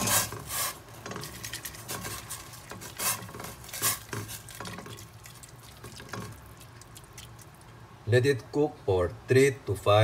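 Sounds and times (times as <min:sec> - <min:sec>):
water boiling: 0:00.0 - 0:08.5.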